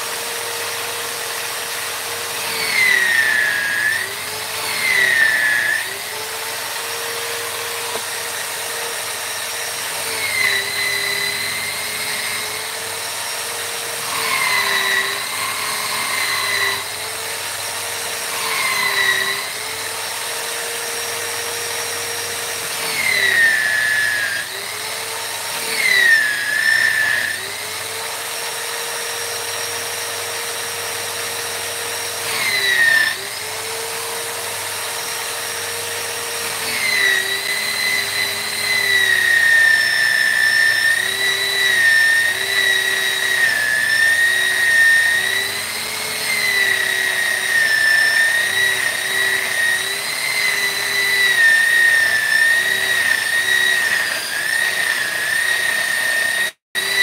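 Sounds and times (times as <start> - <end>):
electric power tool whining: 0.0 - 57.0.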